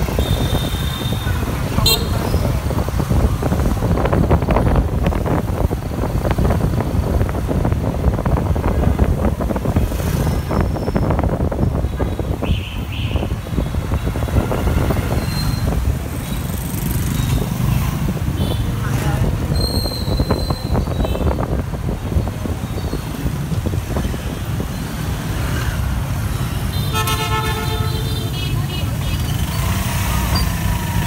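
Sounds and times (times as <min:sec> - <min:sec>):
wind buffeting microphone: 0:00.0 - 0:26.7
passing motorbikes and cars: 0:00.0 - 0:31.0.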